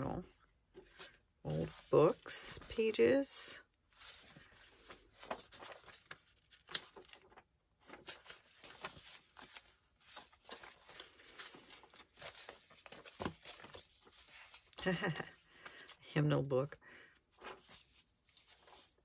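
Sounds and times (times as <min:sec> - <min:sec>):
paper pages rustling: 0:00.7 - 0:19.0.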